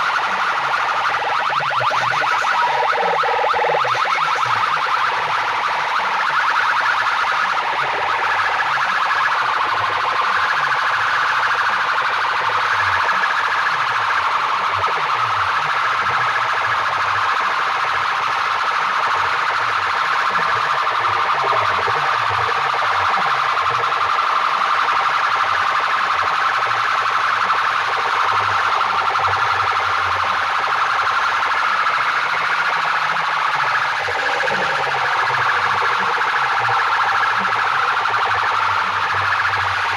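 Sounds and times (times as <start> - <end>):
siren-like electronic wail: 0.0 - 39.9.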